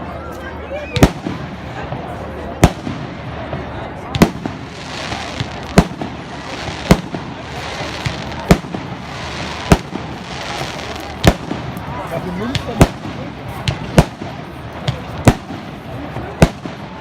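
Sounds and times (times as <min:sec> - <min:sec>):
fireworks crackle and hiss: 0:00.9 - 0:17.0.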